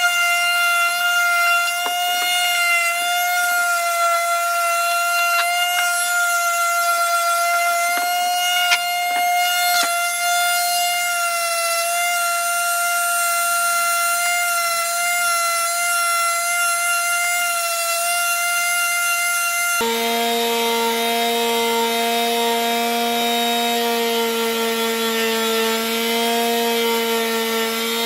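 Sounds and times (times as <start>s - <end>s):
electric sander whining: 0.0s - 16.2s, 16.8s - 28.0s.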